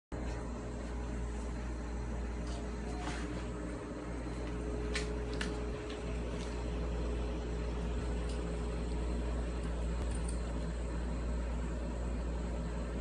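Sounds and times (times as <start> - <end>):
low mechanical hum: 0.1 - 13.0.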